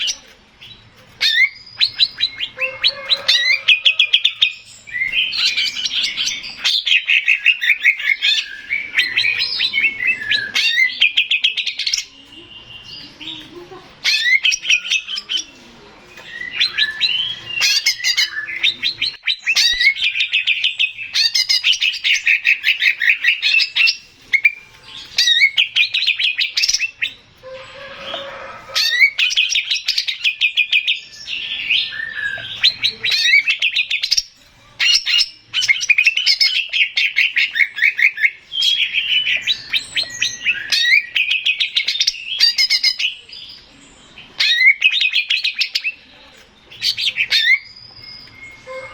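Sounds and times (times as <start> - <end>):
bird chirps and trills: 0.0 - 48.9.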